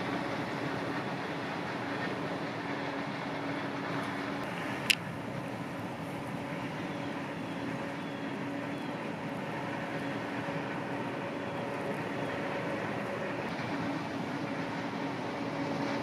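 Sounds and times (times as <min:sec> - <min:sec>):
farm machinery engine drone: 0:00.0 - 0:16.0.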